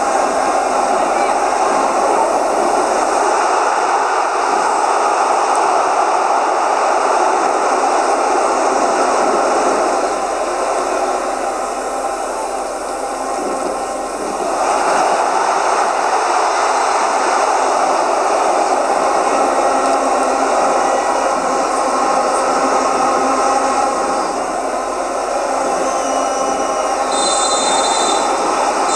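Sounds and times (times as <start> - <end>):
stadium crowd noise: 0.0 - 28.9.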